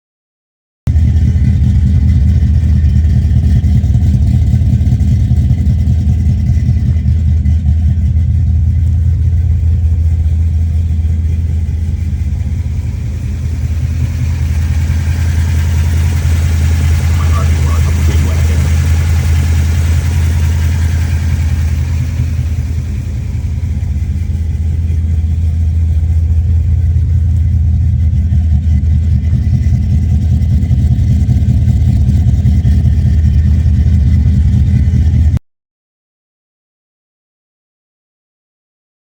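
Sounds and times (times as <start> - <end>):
car engine idling: 0.9 - 35.4.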